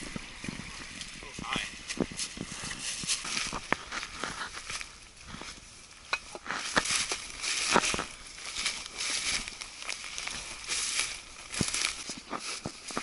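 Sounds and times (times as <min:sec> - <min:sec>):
footsteps through dry leaves: 0:00.0 - 0:13.0
plants rustling against clothing: 0:00.0 - 0:13.0
twigs crackling underfoot: 0:00.0 - 0:13.0.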